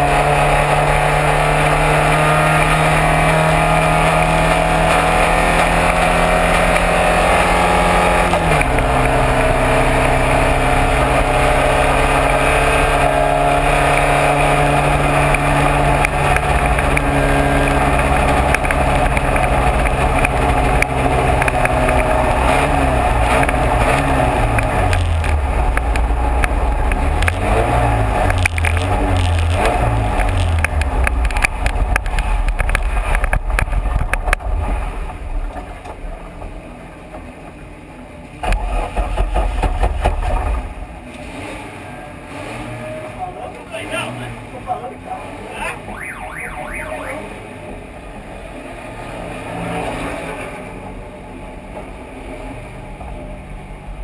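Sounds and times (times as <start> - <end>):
race car engine revving: 0.0 - 36.6, 38.4 - 51.0.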